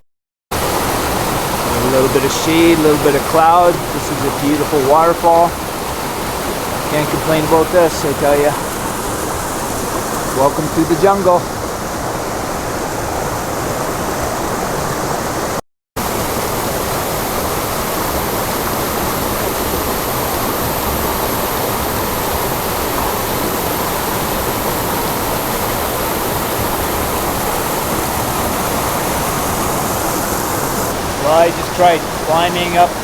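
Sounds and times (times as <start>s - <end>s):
waterfall pouring: 0.5s - 15.3s, 16.0s - 33.0s.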